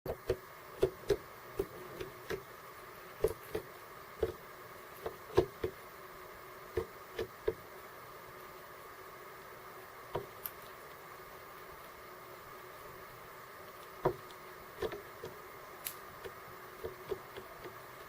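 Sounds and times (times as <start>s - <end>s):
birds pecking seeds: 0.1s - 7.7s, 8.3s - 18.0s.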